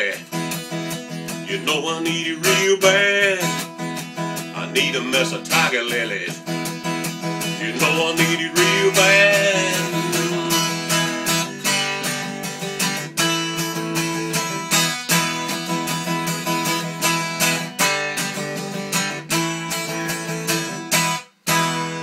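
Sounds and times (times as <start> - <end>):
acoustic guitar strumming chords: 0.0 - 22.0.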